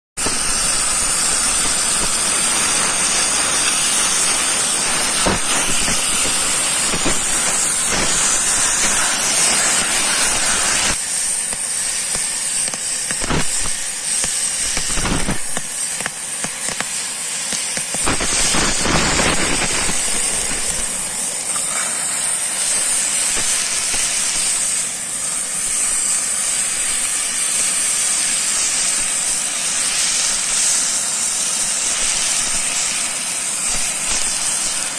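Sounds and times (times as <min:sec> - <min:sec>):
cutting torch hissing: 0:00.2 - 0:34.9.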